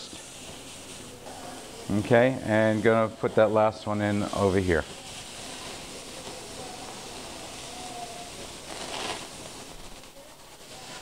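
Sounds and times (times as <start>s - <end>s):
fish sizzling on a grill: 0.0s - 11.0s
flame flaring: 0.0s - 11.0s.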